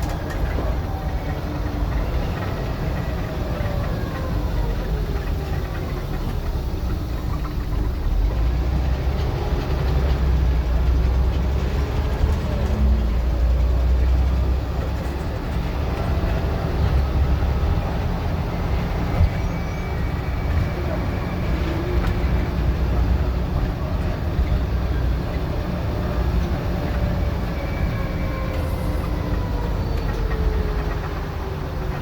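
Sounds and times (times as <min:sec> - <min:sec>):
bus engine rumbling: 0:00.0 - 0:32.0.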